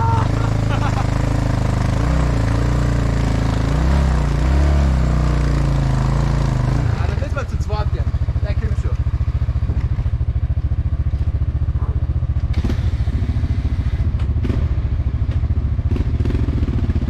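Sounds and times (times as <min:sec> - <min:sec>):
motorcycle engine idling: 0:00.0 - 0:04.3, 0:05.1 - 0:17.0.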